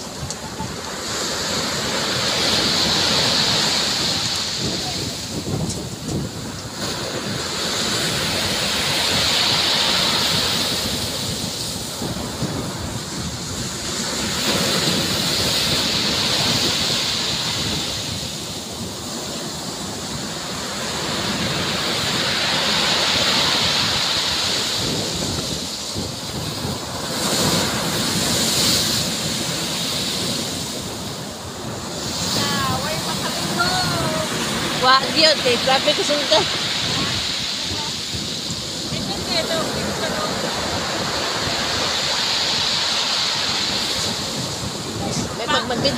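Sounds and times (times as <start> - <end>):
surf breaking on pebble beach: 0.0 - 45.9.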